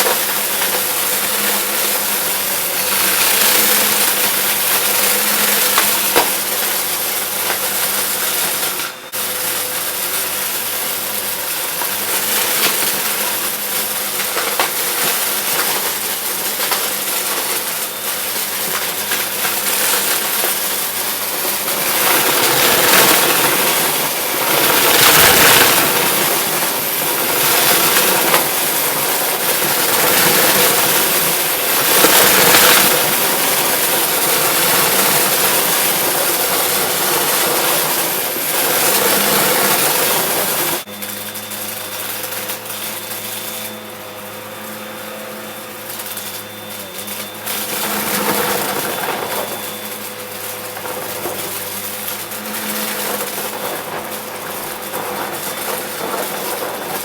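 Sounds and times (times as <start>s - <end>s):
confetti crackling through vacuum: 0.0s - 57.0s
vacuum cleaner motor drone: 0.0s - 57.0s.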